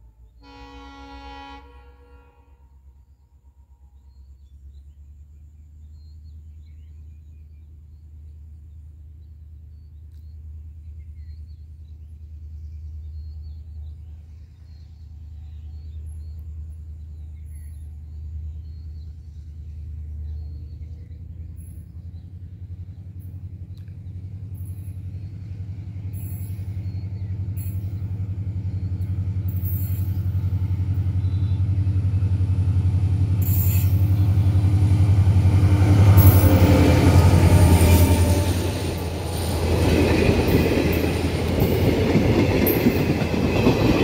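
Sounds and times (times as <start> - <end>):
distant diesel locomotive rumble: 0.0 - 44.0
faint birds chirping: 2.0 - 44.0.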